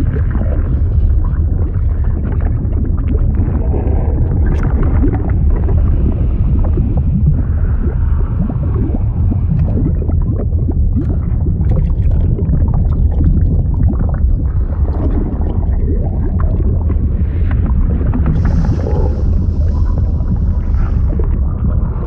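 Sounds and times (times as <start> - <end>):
deep water rumble: 0.0 - 22.0
water bubbling and gurgling: 0.0 - 22.0.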